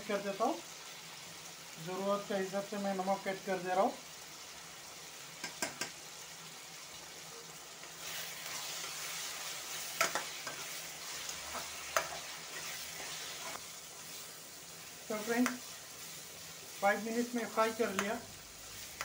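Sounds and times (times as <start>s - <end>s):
masala sizzling in oil: 0.0s - 19.0s.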